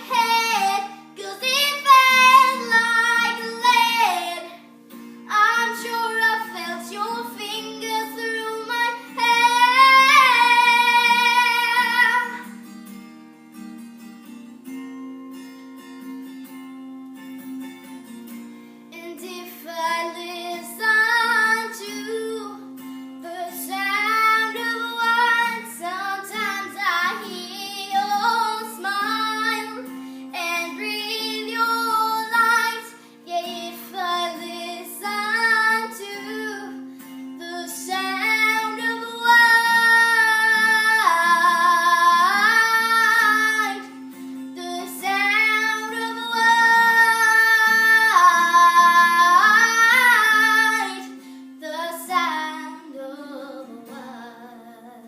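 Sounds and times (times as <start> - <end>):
woman singing: 0.0 - 4.7, 5.3 - 12.5, 19.0 - 55.0
acoustic guitar: 0.0 - 55.0.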